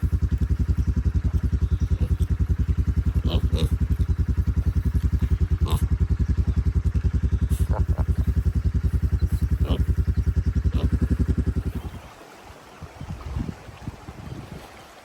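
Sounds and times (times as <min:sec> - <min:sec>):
vehicle engine throbbing: 0:00.0 - 0:12.0.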